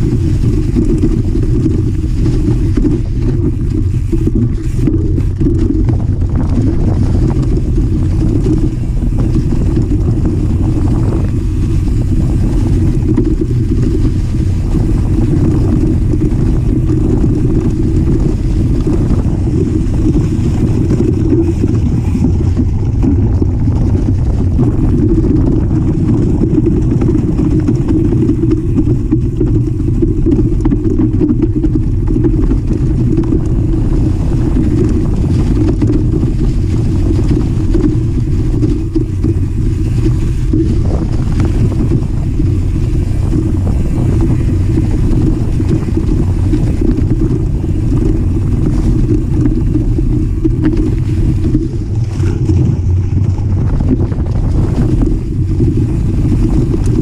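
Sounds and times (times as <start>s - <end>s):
trail vibration rumble: 0.0s - 57.0s
wind buffeting microphone: 0.0s - 57.0s.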